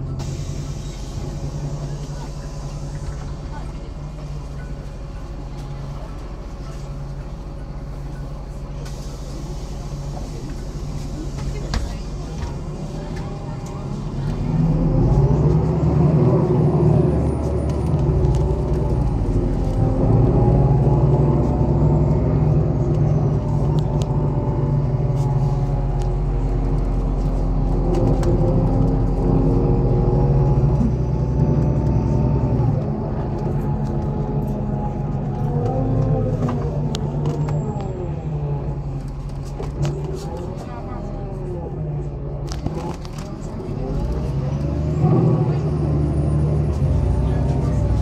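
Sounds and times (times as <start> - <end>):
bus diesel engine rumbling: 0.0 - 48.0.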